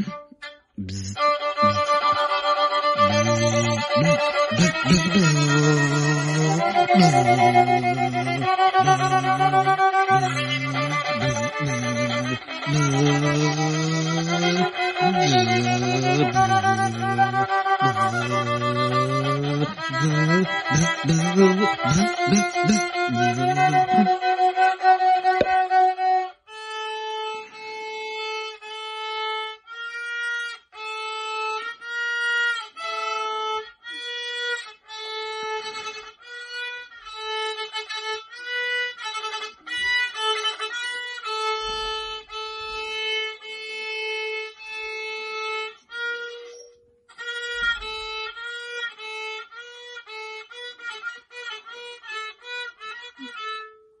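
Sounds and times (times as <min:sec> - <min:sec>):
solo violin tune: 0:00.0 - 0:54.0.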